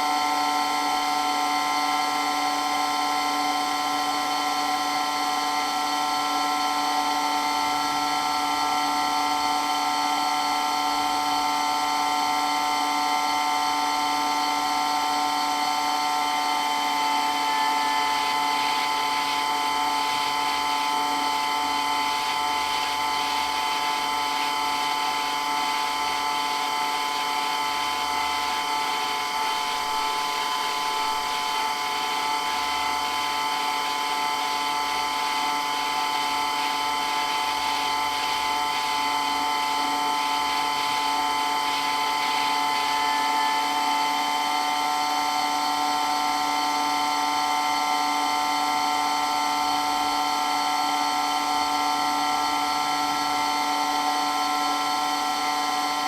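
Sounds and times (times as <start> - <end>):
water pump whining: 0.0 - 56.0.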